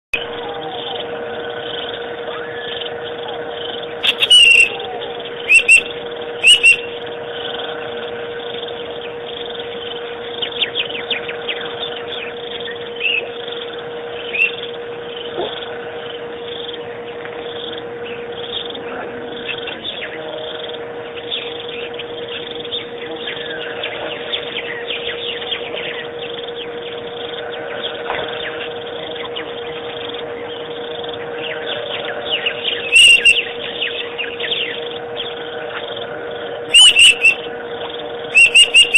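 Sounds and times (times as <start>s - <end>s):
steady hum: 0.1s - 38.9s
birds chirping: 0.2s - 38.9s.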